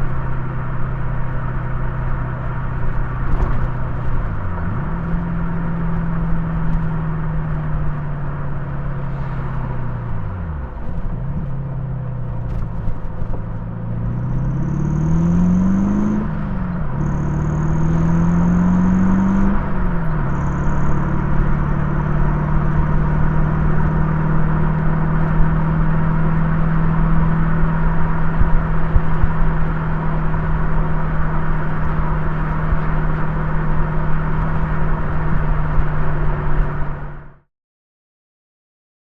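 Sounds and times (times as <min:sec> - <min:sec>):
car engine accelerating: 0:00.0 - 0:37.5
road and wind noise: 0:00.0 - 0:37.5.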